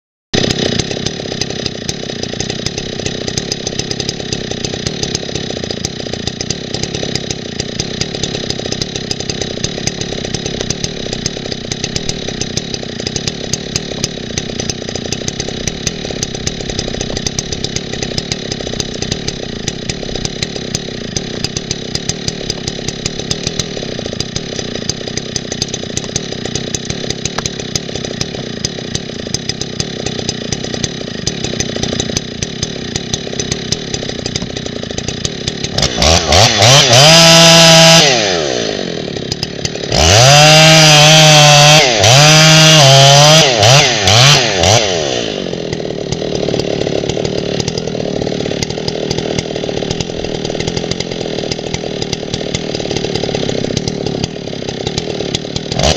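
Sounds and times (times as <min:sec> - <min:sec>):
chainsaw idling: 0:00.4 - 0:55.9.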